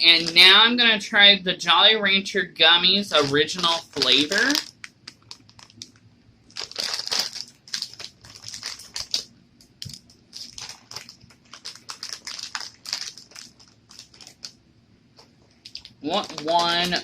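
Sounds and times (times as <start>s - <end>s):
plastic bag crinkling: 0.0s - 0.6s, 3.1s - 17.0s.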